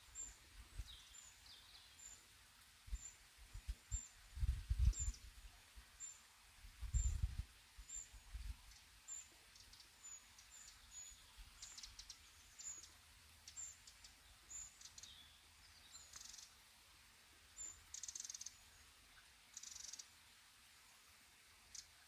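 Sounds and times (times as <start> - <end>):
faint forest ambience: 0.0 - 22.0
songbirds chirping: 0.0 - 22.0.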